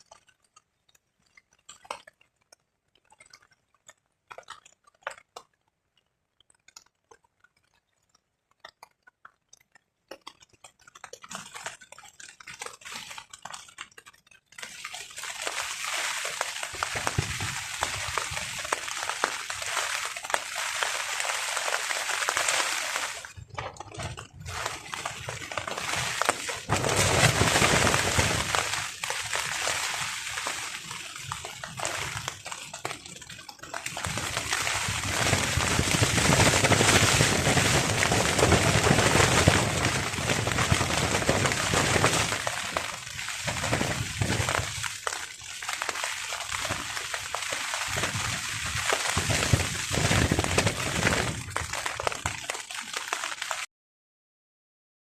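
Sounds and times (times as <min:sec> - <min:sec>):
rain pattering on a tarp: 0:00.0 - 0:53.7.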